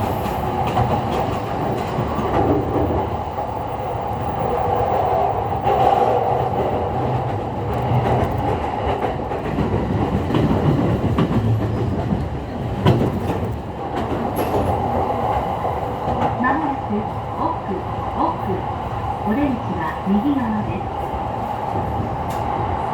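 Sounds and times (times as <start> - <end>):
rail joint clacks: 0.0 - 20.6, 21.7 - 22.9
train wheels rumbling on rail: 0.0 - 22.9.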